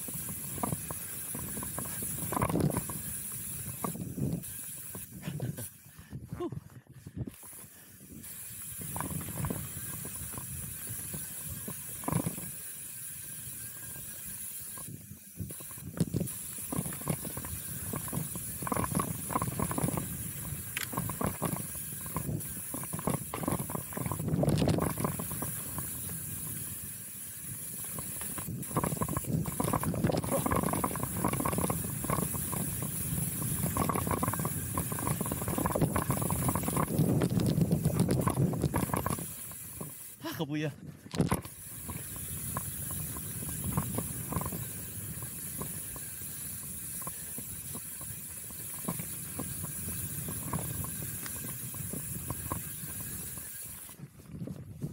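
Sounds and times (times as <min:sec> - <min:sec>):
bike rattling over bumps: 0:00.0 - 0:54.9
bike tyres rushing over dirt: 0:00.0 - 0:54.9.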